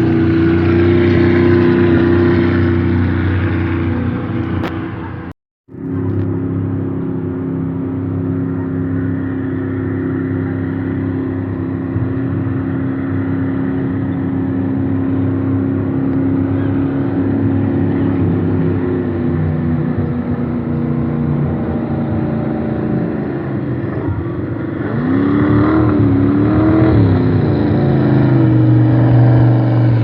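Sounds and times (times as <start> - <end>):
jet boat engine drone: 0.0 - 30.0.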